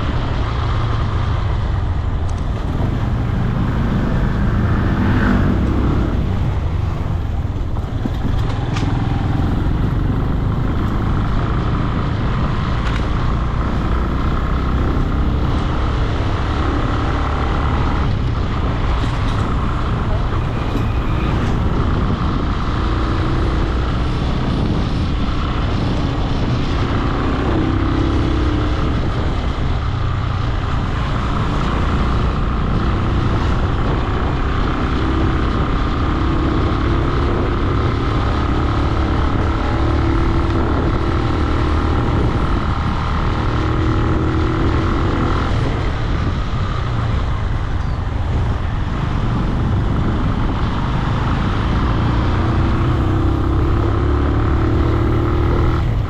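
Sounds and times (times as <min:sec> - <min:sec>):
heavy low rumble: 0:00.0 - 0:56.0
motorcycle engine running: 0:00.0 - 0:56.0.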